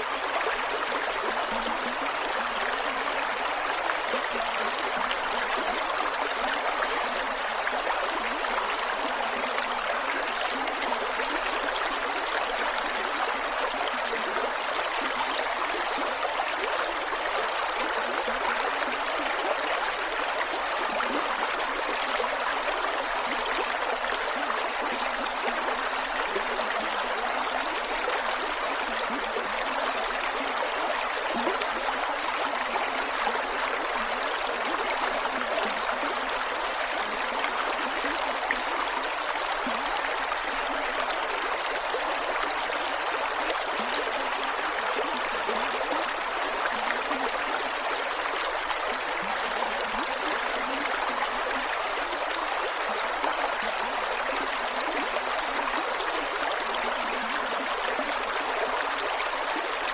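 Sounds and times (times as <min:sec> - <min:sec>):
creek water flowing over rocks: 0:00.0 - 0:59.9.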